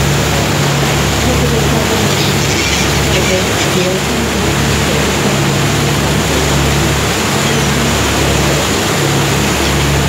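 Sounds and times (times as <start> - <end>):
boat engine humming: 0.0 - 10.0
churning wake rushing: 0.0 - 10.0.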